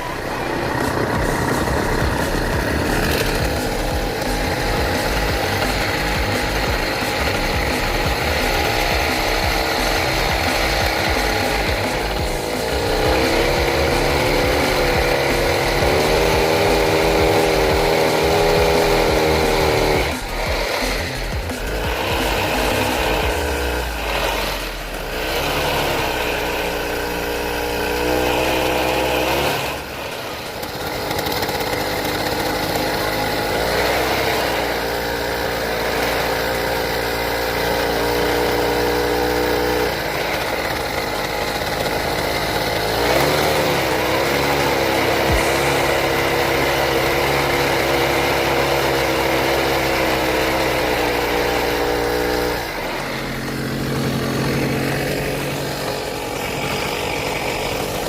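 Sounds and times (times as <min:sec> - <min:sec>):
grass trimmer engine running: 0:00.0 - 0:58.0.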